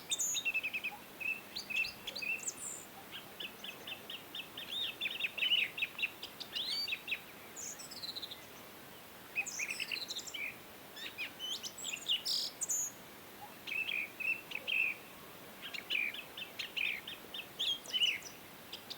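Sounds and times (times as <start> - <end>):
faint steady hiss: 0.0 - 18.9
wild birds chirping and singing: 0.0 - 18.9.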